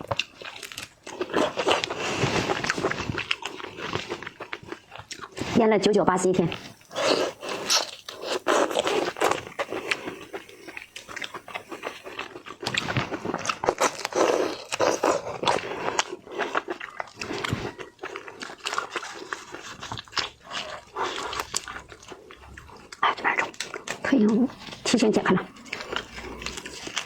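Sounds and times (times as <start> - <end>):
person chewing shellfish: 0.0 - 5.6, 6.5 - 27.0.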